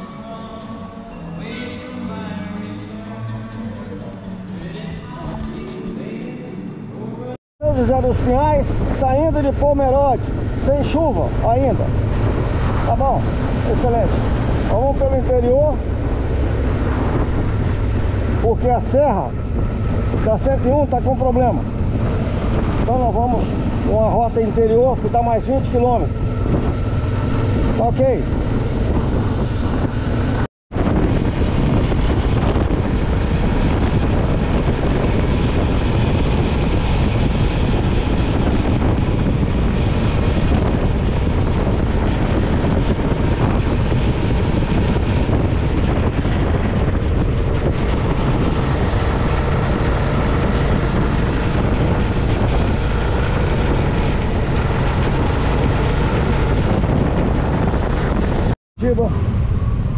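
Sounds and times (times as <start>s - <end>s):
motorcycle engine: 7.6s - 59.9s
wind rushing over microphone: 7.6s - 59.9s.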